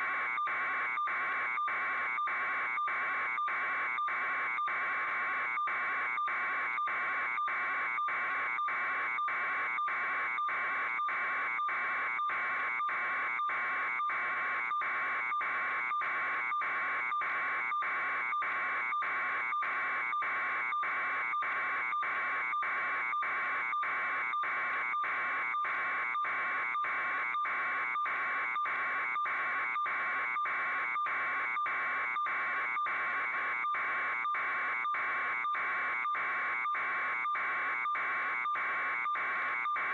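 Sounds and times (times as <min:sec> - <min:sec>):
buzzing electronic alarm: 0:00.0 - 0:39.9.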